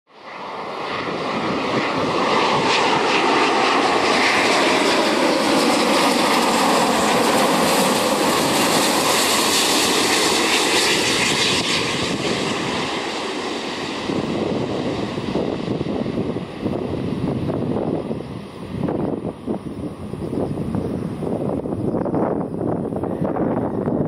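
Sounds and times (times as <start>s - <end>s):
jet airliner flying low past: 0.1s - 24.0s.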